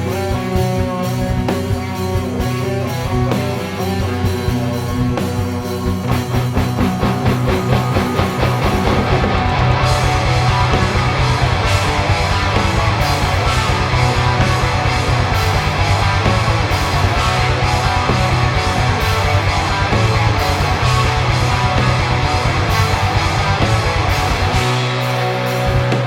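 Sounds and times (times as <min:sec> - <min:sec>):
bass guitar: 0:00.0 - 0:26.0
drums: 0:00.0 - 0:26.0
electric guitars: 0:00.0 - 0:26.0.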